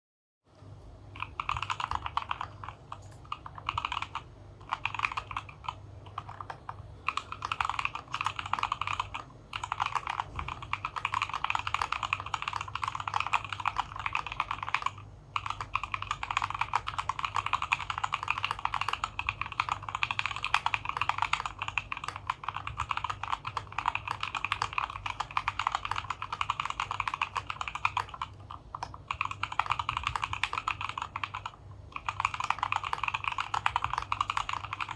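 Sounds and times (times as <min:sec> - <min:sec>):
mechanical keyboard typing: 0:01.1 - 0:34.9.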